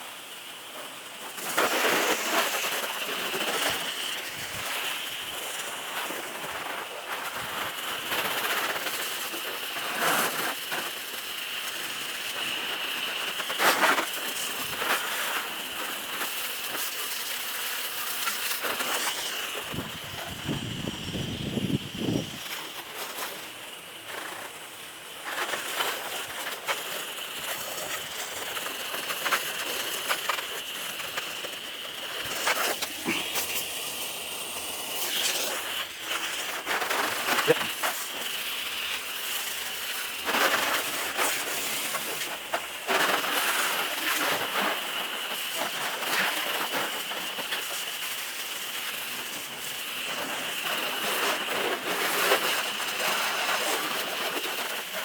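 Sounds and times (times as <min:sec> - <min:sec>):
hose spraying water: 0:00.0 - 0:55.0.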